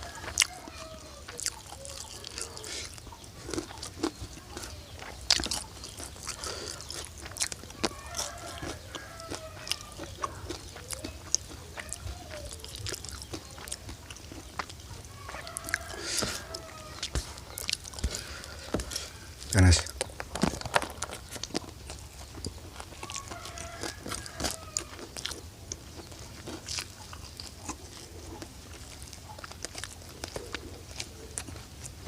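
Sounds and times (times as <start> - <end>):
chewing and crunching: 0.0 - 32.0.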